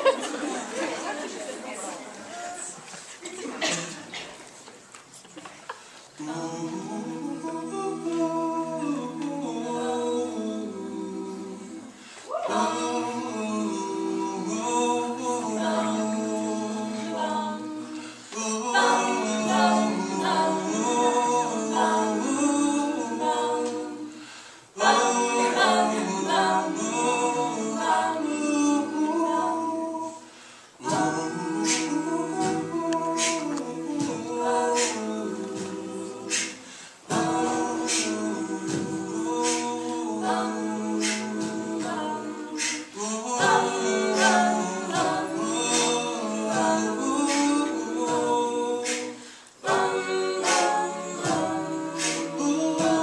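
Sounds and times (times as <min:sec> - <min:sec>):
a cappella group singing chords: 0:05.8 - 0:53.0.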